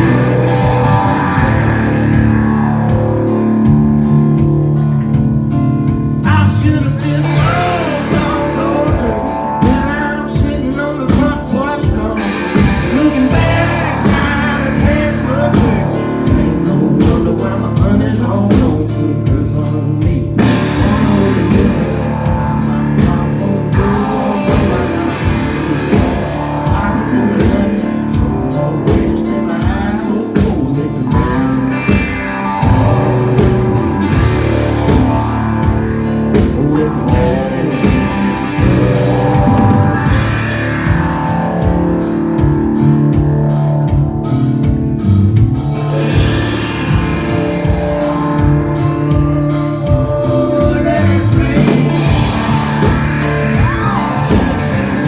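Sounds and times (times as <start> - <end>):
country-rock band playing: 0.0 - 55.0
drum kit steady beat: 0.0 - 55.0
electric guitars ringing: 0.0 - 55.0.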